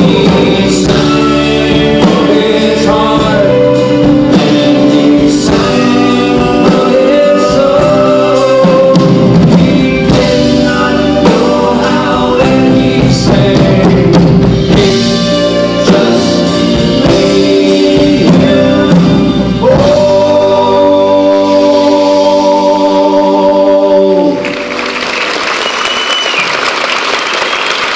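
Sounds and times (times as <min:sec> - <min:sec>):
live band with singing: 0:00.0 - 0:27.9.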